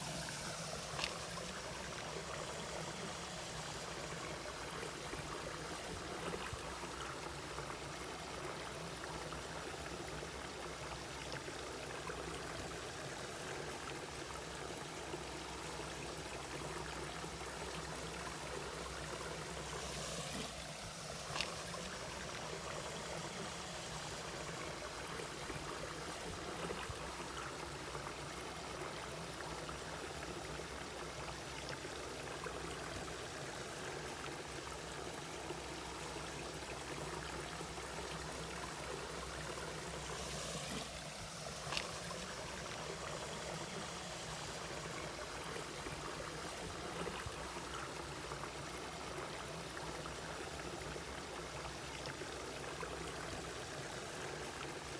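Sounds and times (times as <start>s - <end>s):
stream flowing: 0.0s - 54.9s.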